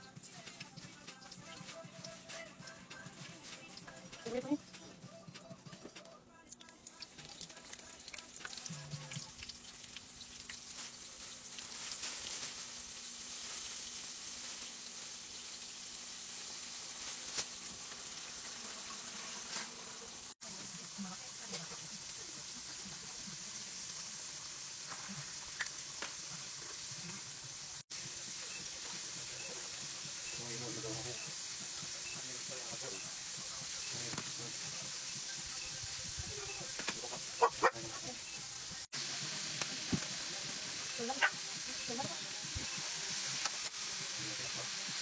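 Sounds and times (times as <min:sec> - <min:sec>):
meat frying in hot oil: 0:06.4 - 0:45.0.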